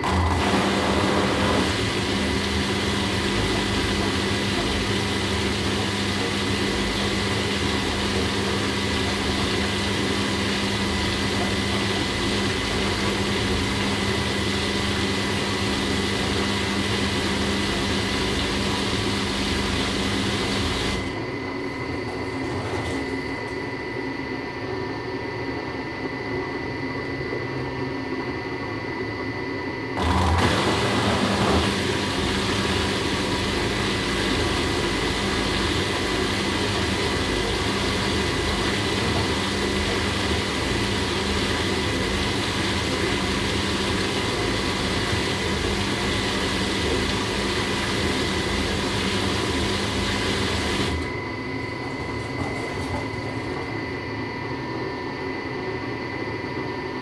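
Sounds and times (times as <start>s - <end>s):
washing machine humming: 0.0s - 57.0s.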